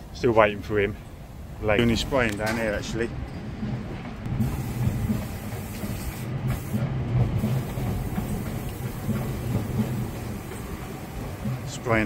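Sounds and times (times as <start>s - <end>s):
wind buffeting microphone: 1.1s - 12.0s.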